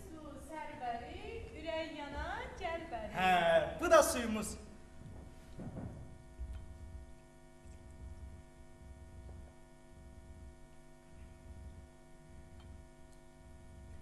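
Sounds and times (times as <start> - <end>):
faint electrical mains hum: 0.0 - 14.0.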